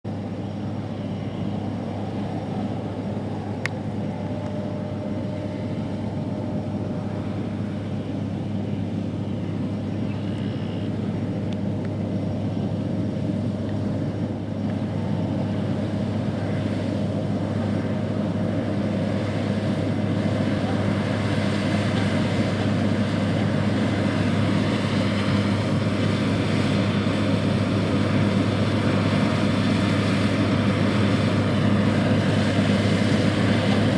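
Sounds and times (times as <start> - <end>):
combine harvester droning: 0.0 - 33.9.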